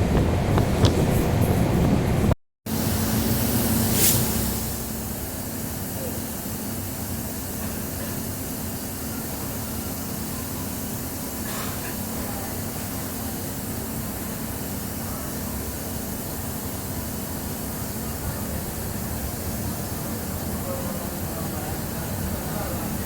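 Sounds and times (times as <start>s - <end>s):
train engine hum: 0.0s - 23.0s
train running hiss: 0.0s - 23.0s.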